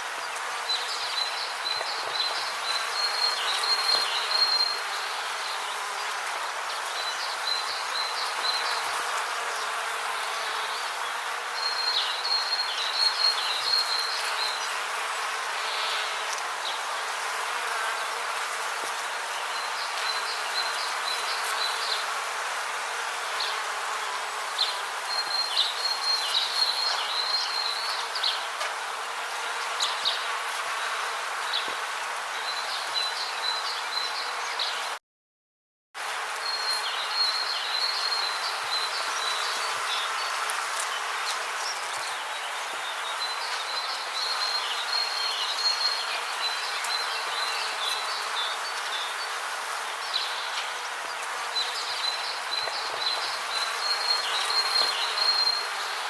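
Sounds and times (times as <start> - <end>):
steady rainforest hiss: 0.0 - 34.8, 36.0 - 56.0.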